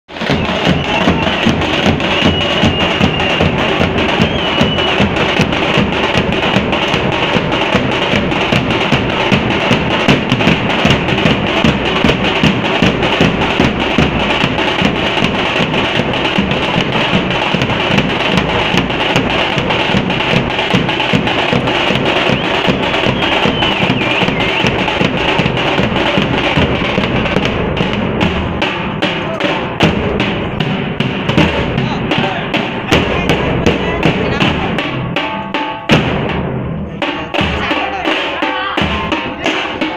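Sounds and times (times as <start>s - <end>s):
large drums beaten fast: 0.1s - 39.9s.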